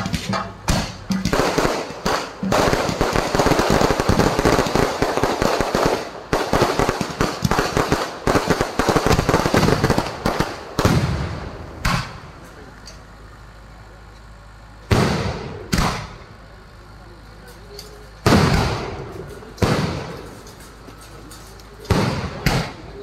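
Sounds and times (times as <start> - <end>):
fireworks bangs and crackling: 0.0 - 12.4, 14.8 - 16.3, 18.2 - 23.0.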